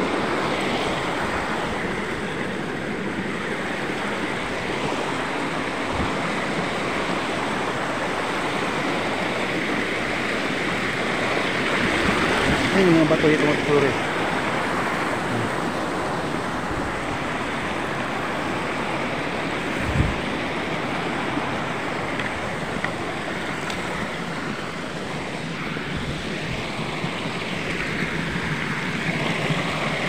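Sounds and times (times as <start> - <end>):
stream rushing and splashing: 0.0 - 30.0.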